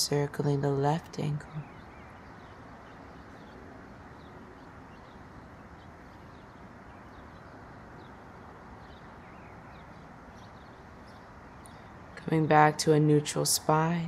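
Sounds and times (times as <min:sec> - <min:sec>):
distant birds chirping: 0:00.0 - 0:14.0
steady low hiss: 0:00.0 - 0:14.0.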